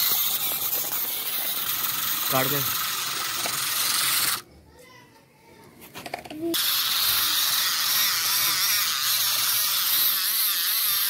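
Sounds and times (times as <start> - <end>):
small motor whirring: 0.0 - 4.4, 6.5 - 11.0.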